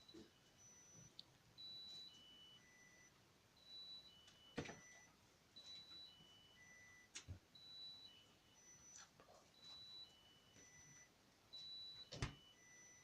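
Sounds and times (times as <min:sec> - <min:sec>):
refrigerator alarm beeping tune: 0:00.0 - 0:09.0, 0:09.6 - 0:13.0.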